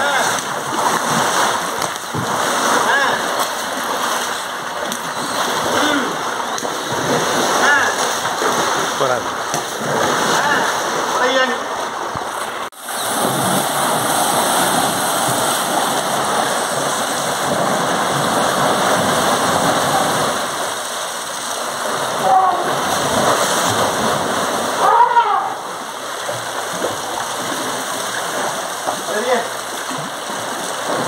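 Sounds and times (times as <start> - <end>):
hose water spraying and splashing: 0.0 - 31.0.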